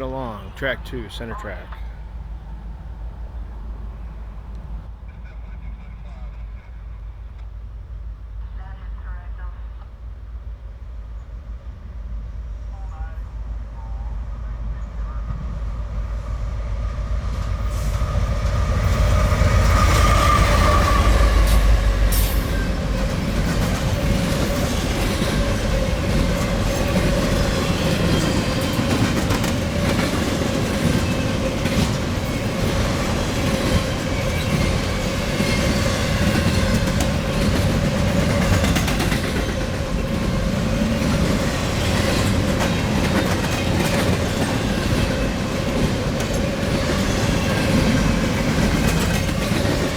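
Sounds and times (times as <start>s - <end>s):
rail cars clacking over track: 0.0s - 10.1s, 10.7s - 49.9s
freight train rumble: 0.0s - 49.9s.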